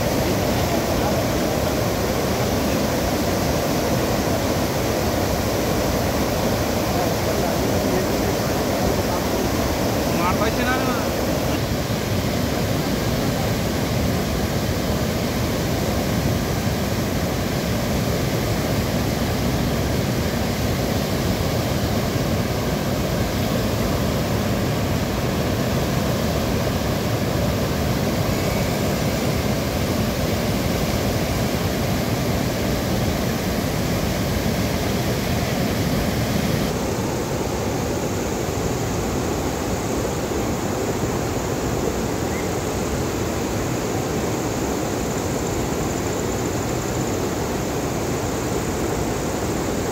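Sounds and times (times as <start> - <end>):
churning whitewater: 0.0 - 49.9
water rushing over weir: 0.0 - 49.9.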